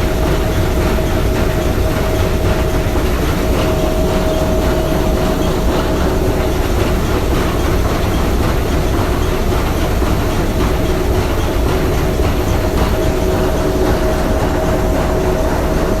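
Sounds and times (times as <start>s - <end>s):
faint humming tones: 0.0s - 16.0s
steam engine clatter: 0.0s - 16.0s.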